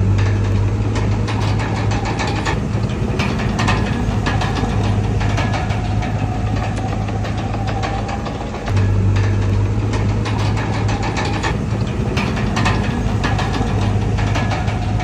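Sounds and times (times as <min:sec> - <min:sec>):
bulldozer diesel engine running: 0:00.0 - 0:15.0
short knocks and clanks: 0:00.0 - 0:15.0.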